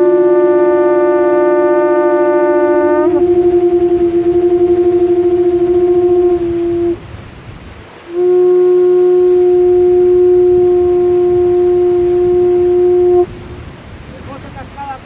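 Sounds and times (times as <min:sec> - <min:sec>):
horn blowing long notes: 0:00.0 - 0:13.5.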